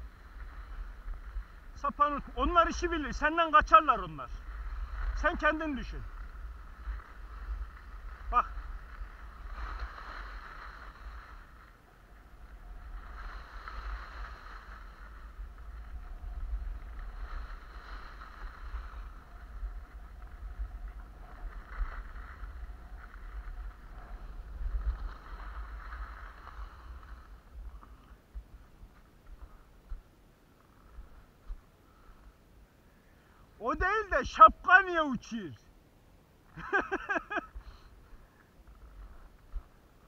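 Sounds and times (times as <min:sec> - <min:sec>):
skis scraping over snow: 0:00.0 - 0:32.4, 0:36.6 - 0:40.0
low wind rumble: 0:00.0 - 0:34.7.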